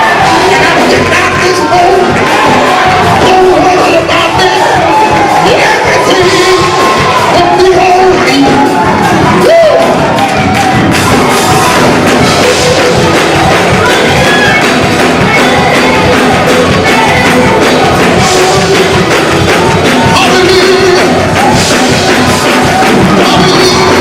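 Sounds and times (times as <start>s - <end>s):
church music with drums: 0.0s - 24.0s.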